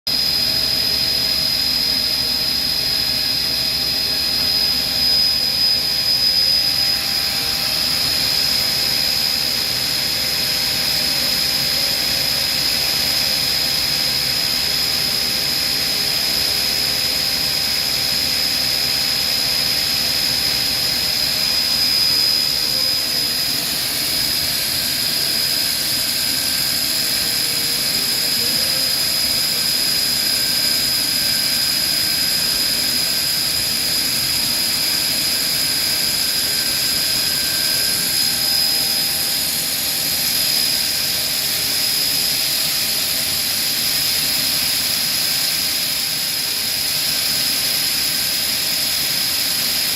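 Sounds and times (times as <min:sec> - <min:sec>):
machine spindle whine: 0:00.1 - 0:49.9.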